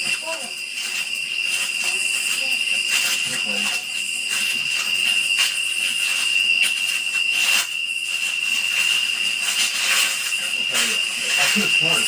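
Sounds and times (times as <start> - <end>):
constant hiss: 0.0 - 12.0
high-pitched whine: 0.0 - 12.0.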